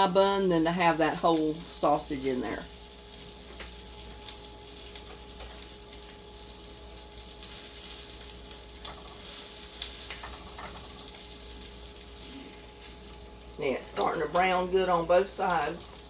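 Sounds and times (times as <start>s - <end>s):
sausages sizzling in a frying pan: 0.0s - 16.0s.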